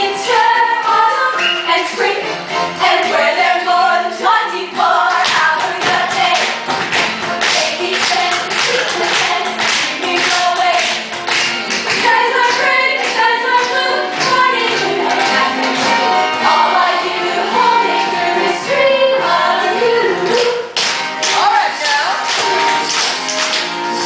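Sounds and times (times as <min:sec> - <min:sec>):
chorus singing show tune: 0:00.0 - 0:06.7, 0:07.6 - 0:11.2, 0:11.9 - 0:22.9.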